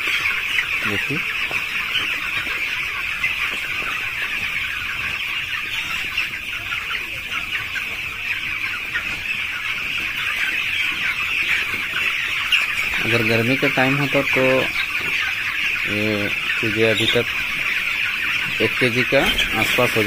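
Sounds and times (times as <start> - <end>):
chicks cheeping: 0.0 - 20.0.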